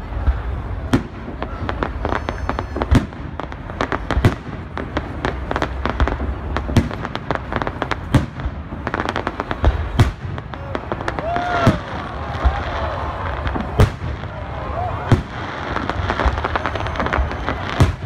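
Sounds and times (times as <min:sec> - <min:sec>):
fireworks booming: 0:00.0 - 0:18.0
fireworks crackling pops: 0:00.0 - 0:18.0.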